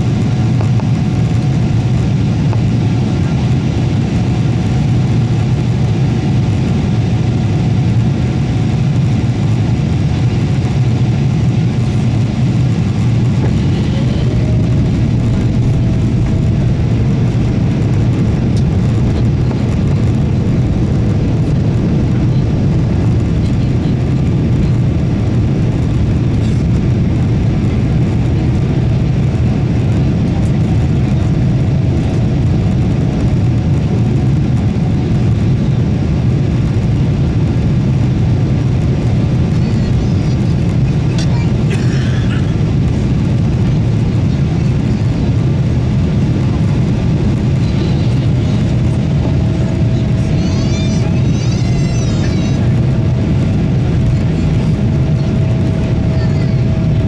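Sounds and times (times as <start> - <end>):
faint whine: 0.0 - 57.0
low engine rumble: 0.0 - 57.0.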